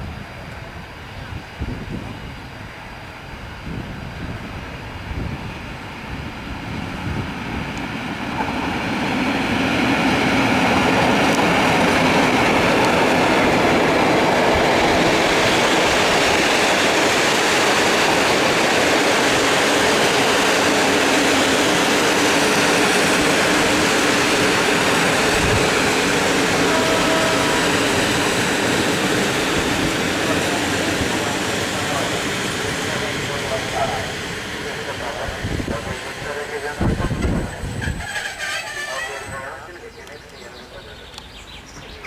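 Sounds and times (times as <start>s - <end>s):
passenger train passing: 0.0s - 42.0s.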